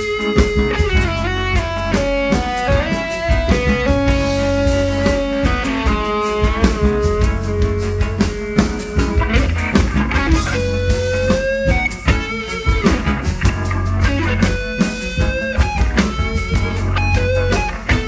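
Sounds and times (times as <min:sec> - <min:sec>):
bass groove: 0:00.0 - 0:18.0
drum kit: 0:00.0 - 0:18.0
electric guitar solo: 0:00.0 - 0:18.0.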